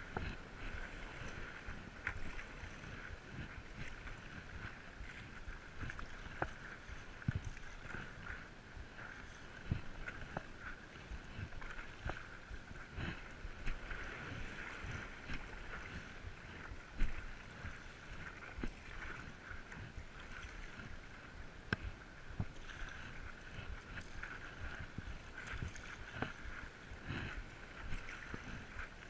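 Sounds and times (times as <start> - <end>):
paddle splashes and knocks: 0.0 - 29.0
water lapping against board: 0.0 - 29.0.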